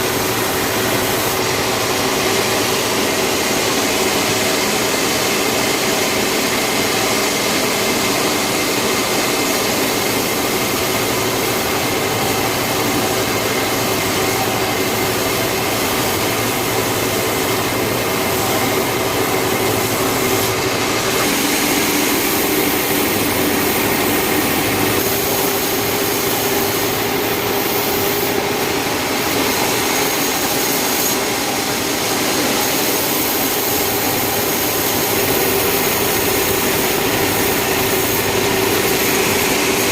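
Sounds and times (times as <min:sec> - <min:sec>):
sawmill saw machinery running: 0:00.0 - 0:39.9.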